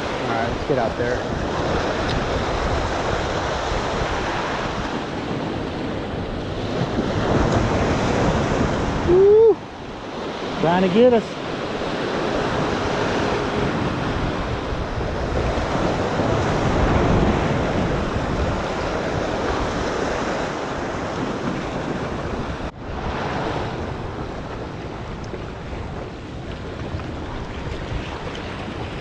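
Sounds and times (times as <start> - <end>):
ocean surf breaking on rocks: 0.0 - 29.0
wind on microphone: 0.0 - 29.0.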